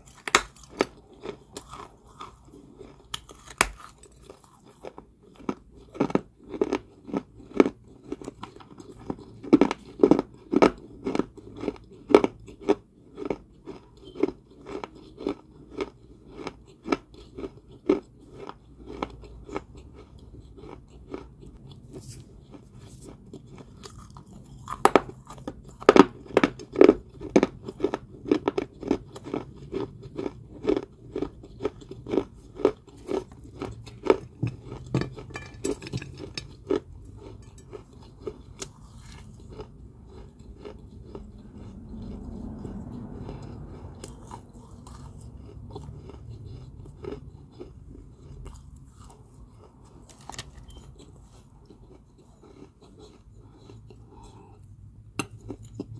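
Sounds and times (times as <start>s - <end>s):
soft chewing: 0.0s - 55.9s.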